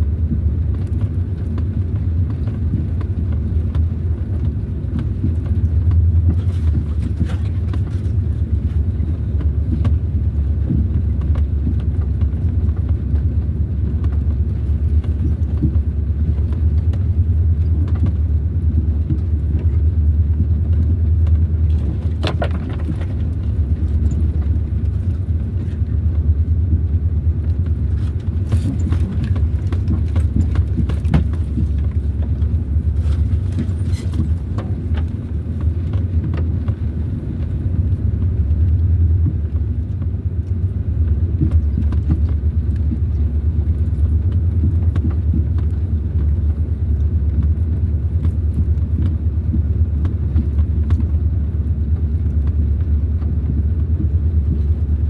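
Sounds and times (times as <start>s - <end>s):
low rumble: 0.0s - 55.0s.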